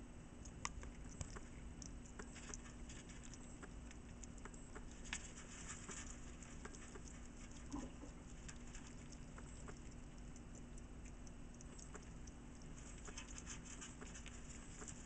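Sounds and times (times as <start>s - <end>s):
hedgehog clicking and crackling: 0.4s - 15.0s.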